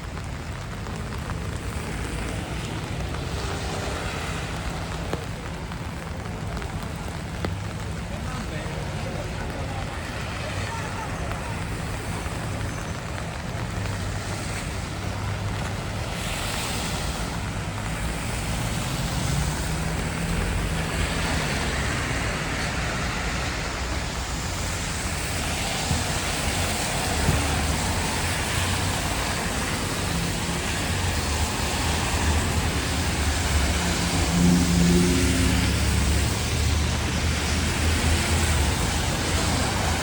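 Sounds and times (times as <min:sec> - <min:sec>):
tyres hissing on wet road: 0:00.0 - 0:40.0
vehicle engines humming: 0:00.0 - 0:40.0.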